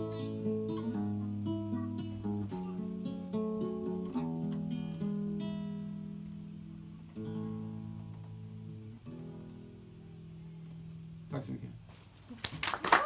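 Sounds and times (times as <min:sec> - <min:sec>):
fingerpicked acoustic guitar: 0:00.0 - 0:12.3.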